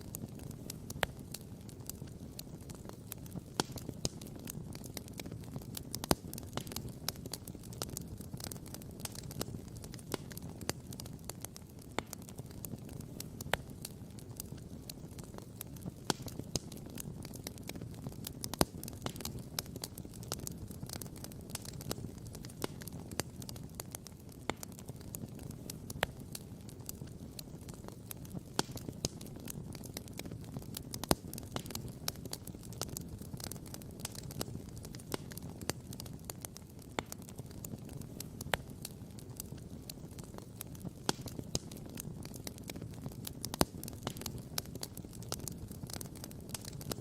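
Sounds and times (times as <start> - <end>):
wood campfire crackling: 0.0 - 47.0.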